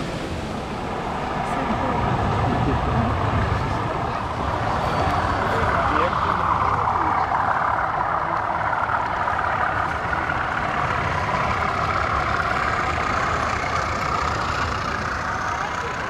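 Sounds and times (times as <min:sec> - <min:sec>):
model trains running: 0:00.0 - 0:16.0.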